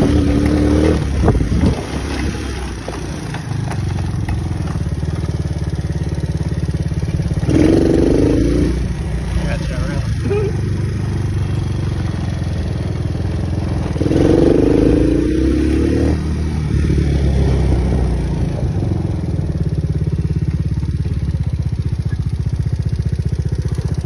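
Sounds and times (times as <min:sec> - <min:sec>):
off-road vehicle engine revving: 0:00.0 - 0:20.2.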